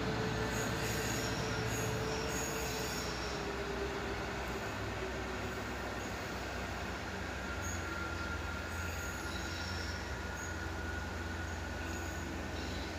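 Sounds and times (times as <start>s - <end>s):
distant locomotive diesel engine rumble: 0.0s - 12.9s
wheels squealing on rails: 0.0s - 12.9s.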